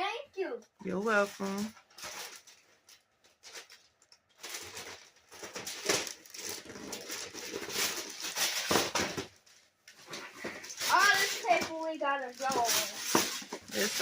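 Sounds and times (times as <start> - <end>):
wrapping paper rustling and tearing: 1.0 - 14.0.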